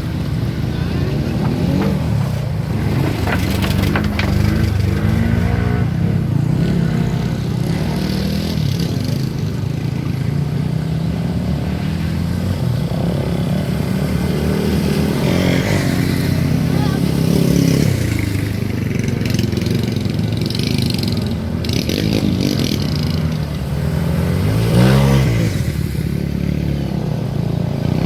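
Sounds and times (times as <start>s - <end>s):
off-road motorcycle engines revving: 0.0s - 28.0s.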